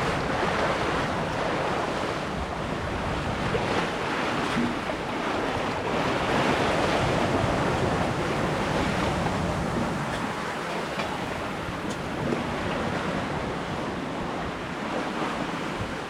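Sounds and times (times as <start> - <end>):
water rushing along a hull: 0.0 - 16.0
wind buffeting the microphone: 0.0 - 16.0.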